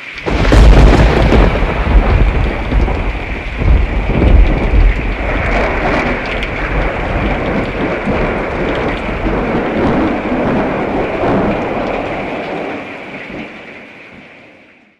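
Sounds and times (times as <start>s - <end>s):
thunder rumbling: 0.0s - 13.6s
sharp raindrop ticks: 0.0s - 14.3s
heavy rain falling: 0.0s - 14.9s.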